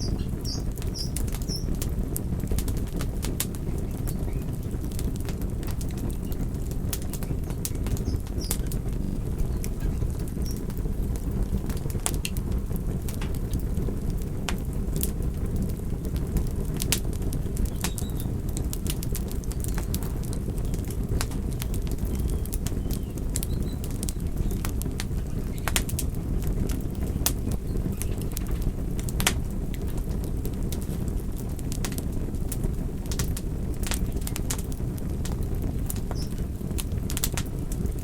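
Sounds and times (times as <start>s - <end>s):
fire crackling and popping: 0.0s - 38.0s
fire flames rushing: 0.0s - 38.0s.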